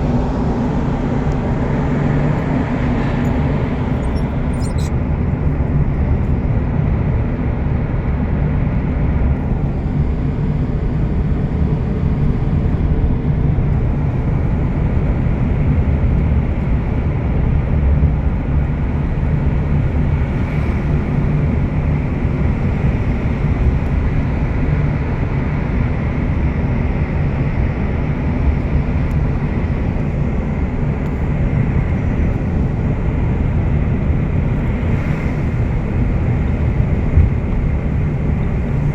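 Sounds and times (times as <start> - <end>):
vehicle engine and tyre rumble: 0.0 - 38.9.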